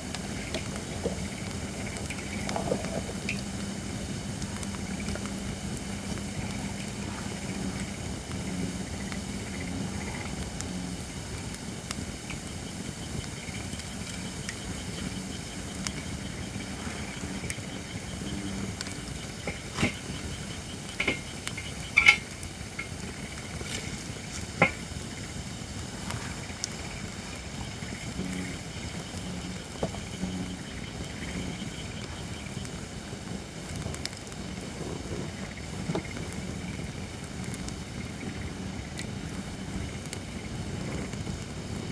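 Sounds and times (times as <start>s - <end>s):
campfire hiss and crackle: 0.0s - 41.9s.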